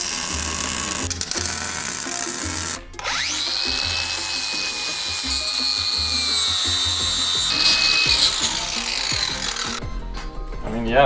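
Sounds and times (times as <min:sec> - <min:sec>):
angle grinder whining: 0:00.0 - 0:09.8
welder crackling: 0:00.0 - 0:09.8.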